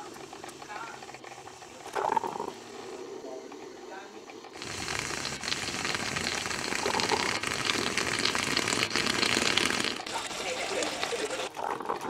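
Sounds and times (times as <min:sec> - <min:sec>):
moka pot sputtering and gurgling: 0:00.0 - 0:12.0.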